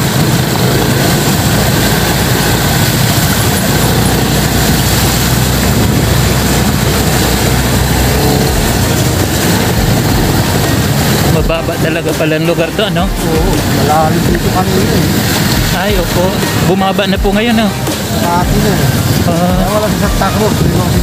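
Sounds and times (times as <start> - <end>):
motorcycle engine running: 0.0 - 21.0
rushing water: 0.0 - 21.0.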